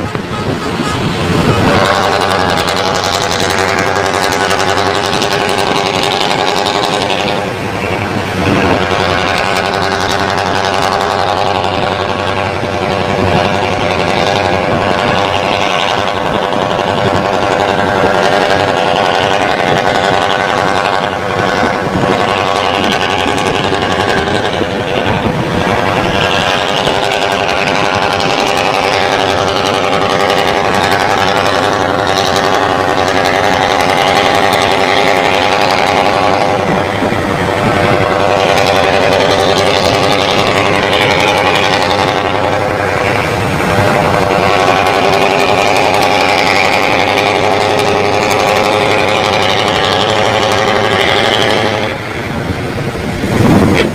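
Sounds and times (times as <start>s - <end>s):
truck diesel engine roaring: 0.0s - 53.9s.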